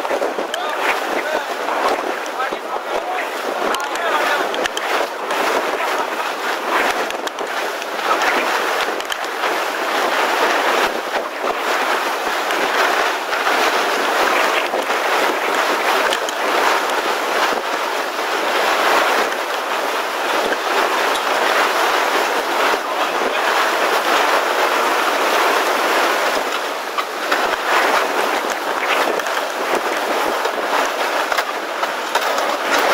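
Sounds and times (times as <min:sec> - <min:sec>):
strong wind on microphone: 0:00.0 - 0:32.9.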